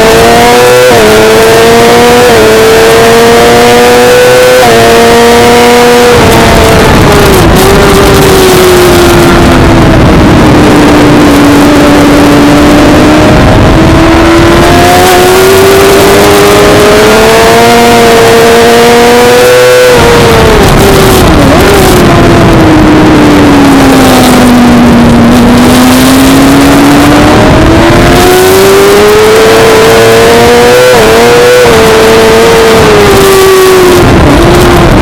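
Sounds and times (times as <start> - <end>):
motorcycle engine revving: 0.0 - 35.0
wind noise: 0.0 - 35.0.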